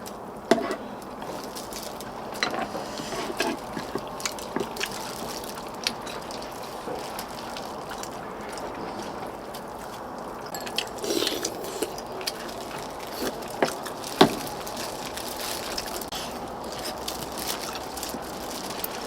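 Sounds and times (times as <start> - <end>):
slurping broth: 0.5 - 19.0.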